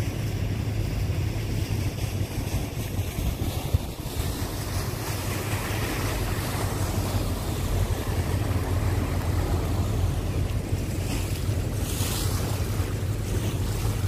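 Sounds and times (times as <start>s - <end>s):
churning river water: 0.0s - 14.0s
wind buffeting microphone: 0.0s - 14.0s.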